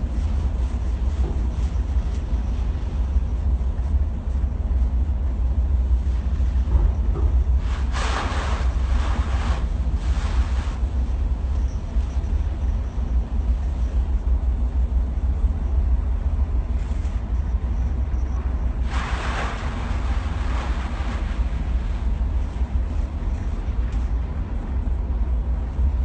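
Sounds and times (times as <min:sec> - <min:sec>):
ferry engines rumbling: 0:00.0 - 0:26.0.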